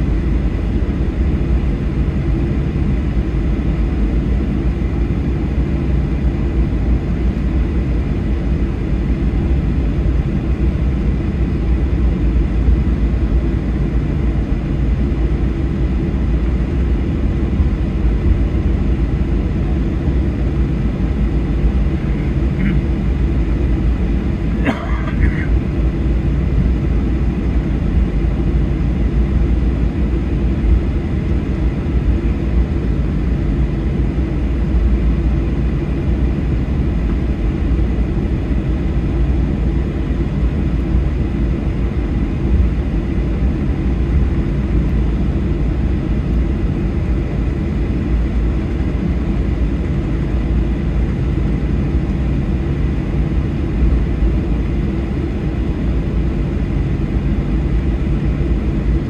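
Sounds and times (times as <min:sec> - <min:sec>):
faint thin engine whine: 0:00.0 - 0:59.0
jet engines low rumble: 0:00.0 - 0:59.0.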